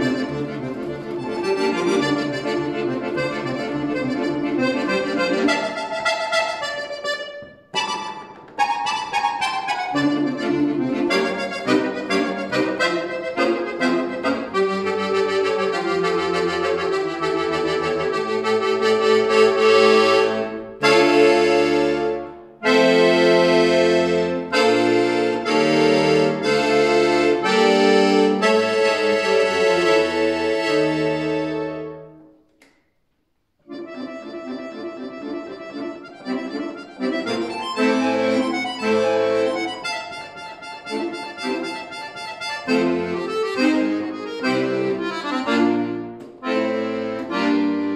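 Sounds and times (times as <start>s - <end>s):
piano accordion playing chords: 0.0s - 32.5s, 33.6s - 47.9s.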